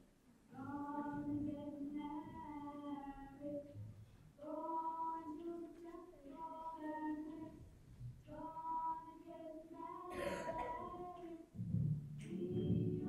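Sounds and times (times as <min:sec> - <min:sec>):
women singing slow melody: 0:00.5 - 0:03.8, 0:04.4 - 0:11.6, 0:12.2 - 0:13.0.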